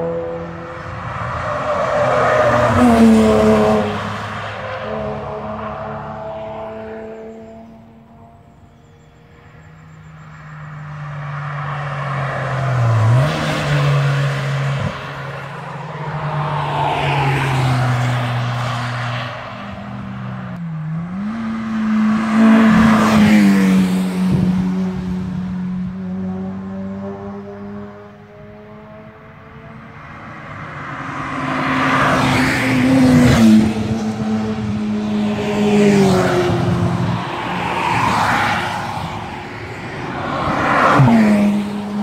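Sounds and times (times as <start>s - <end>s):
race cars passing at speed: 0.0s - 42.0s.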